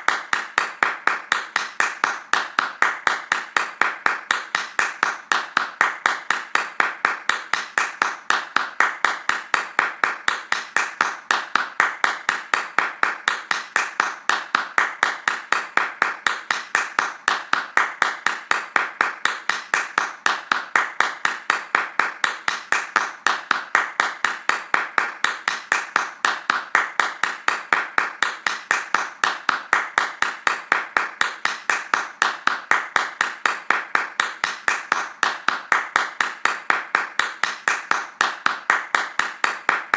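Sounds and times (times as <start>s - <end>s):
hands clapping fast: 0.0s - 39.9s.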